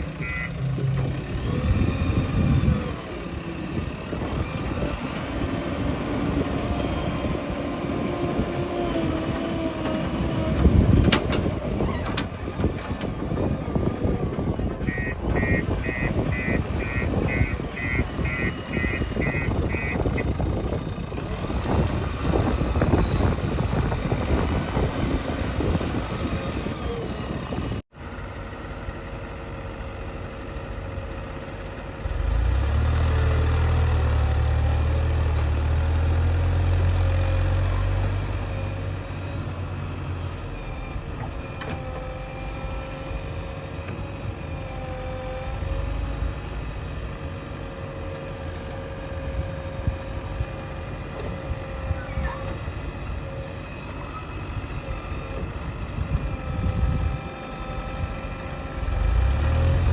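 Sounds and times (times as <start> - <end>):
backhoe diesel engine running: 0.0 - 59.9
diesel engine rattling: 0.0 - 59.9.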